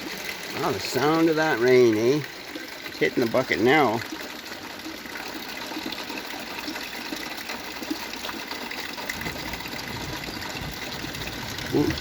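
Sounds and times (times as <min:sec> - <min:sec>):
drops tapping a bucket: 0:00.0 - 0:12.0.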